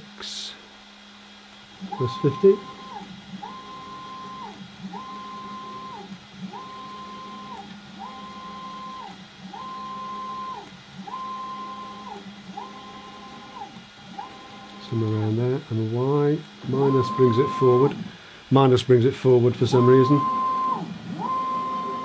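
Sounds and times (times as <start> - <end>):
stepper motors whining: 1.8 - 18.1, 19.5 - 22.0.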